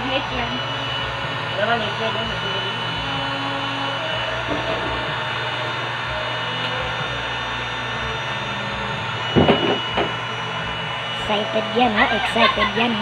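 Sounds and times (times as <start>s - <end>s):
electric air pump humming: 0.0s - 13.0s.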